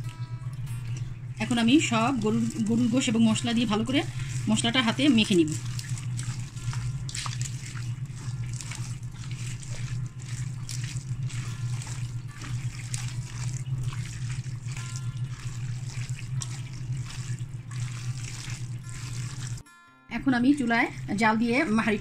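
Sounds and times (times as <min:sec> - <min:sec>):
hands squelching raw meat: 0:00.0 - 0:19.6
steady low hum: 0:00.0 - 0:22.0.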